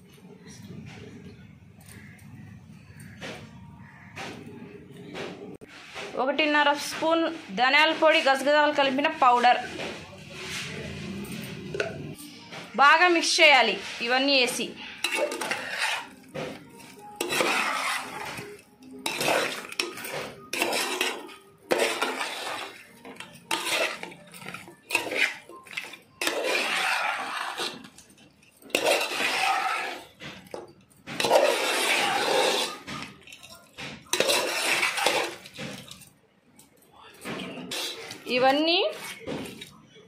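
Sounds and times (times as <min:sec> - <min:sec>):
spoon stirring and scraping pot: 0:05.0 - 0:36.2, 0:37.2 - 0:40.0.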